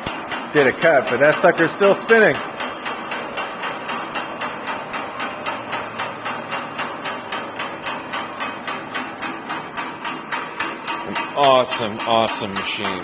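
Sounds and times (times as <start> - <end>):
bandsaw coasting down: 0.0 - 13.0.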